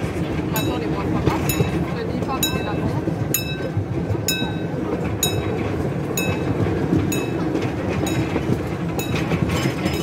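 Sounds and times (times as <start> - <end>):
train rumbling along track: 0.0 - 10.0.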